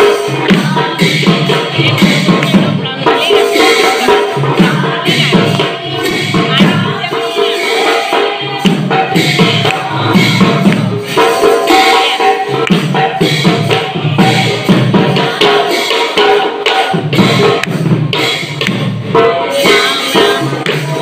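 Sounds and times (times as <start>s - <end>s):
barrel drum: 0.0s - 21.0s
group singing: 0.0s - 21.0s
small hand cymbals: 0.0s - 21.0s
small hand drums: 0.0s - 21.0s.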